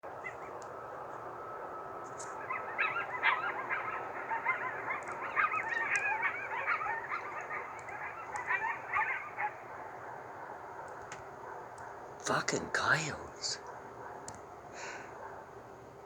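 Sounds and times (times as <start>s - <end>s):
coyotes yipping: 0.0s - 15.9s.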